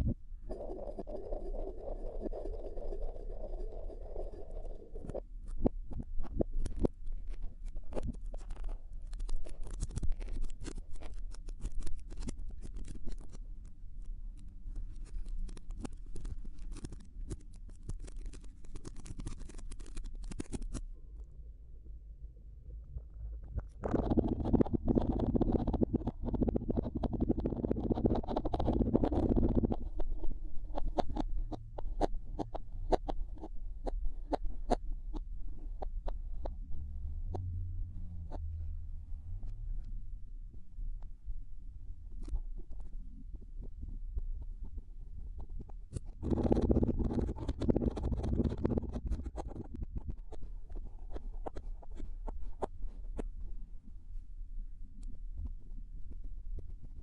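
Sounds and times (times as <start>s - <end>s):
low steady hum: 0.0s - 19.1s, 20.4s - 57.0s.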